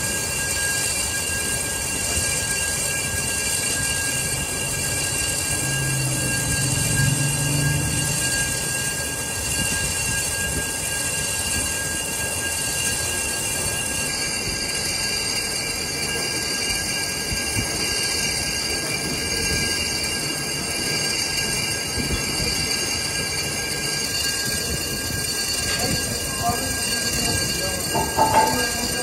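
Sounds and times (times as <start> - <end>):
lathe running noise: 0.0 - 29.0
lathe tool cutting steel whine: 0.0 - 29.0.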